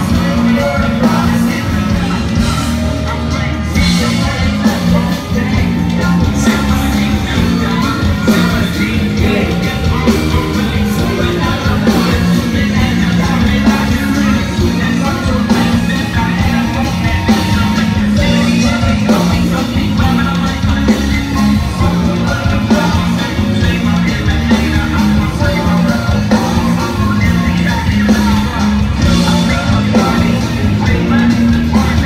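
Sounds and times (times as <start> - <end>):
repeating bass line: 0.0 - 32.0
rock band with singer: 0.0 - 32.0.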